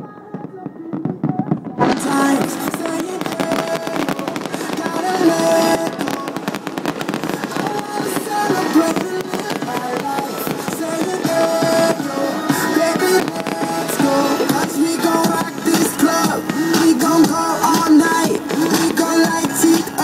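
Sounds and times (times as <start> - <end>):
fireworks bursting and crackling: 0.0 - 20.0
music playing: 0.0 - 20.0.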